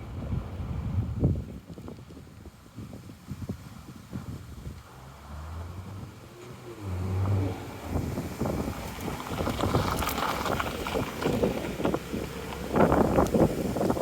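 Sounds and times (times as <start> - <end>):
wind buffeting microphone: 0.0 - 14.0
low engine hum: 2.3 - 14.0.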